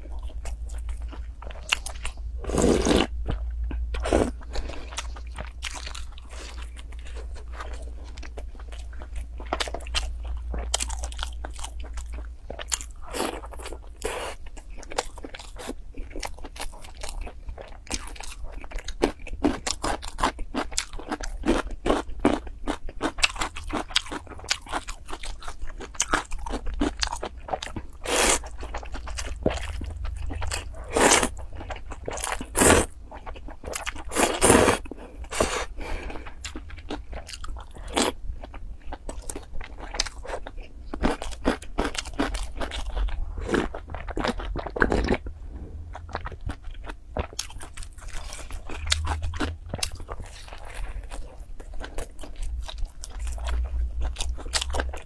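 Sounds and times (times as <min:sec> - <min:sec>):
crunching and chewing fried food: 0:00.0 - 0:55.0.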